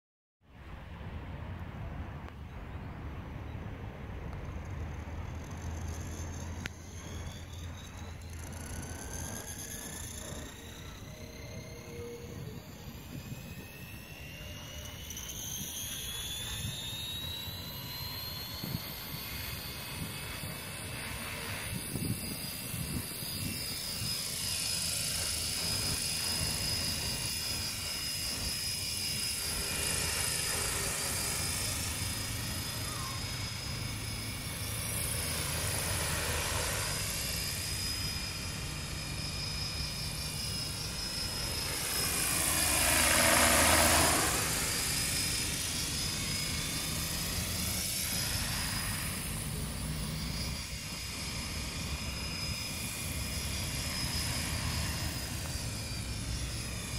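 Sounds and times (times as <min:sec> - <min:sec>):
model helicopter rotor whir: 0:01.2 - 0:56.9.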